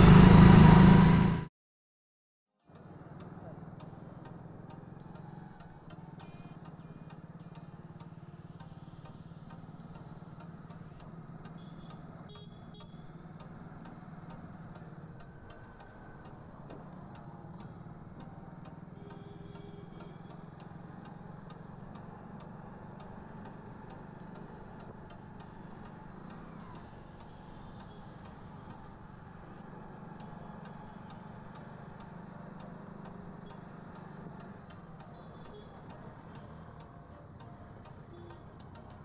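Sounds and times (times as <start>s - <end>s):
vehicle engine and road noise: 0.0s - 1.5s, 2.5s - 39.0s.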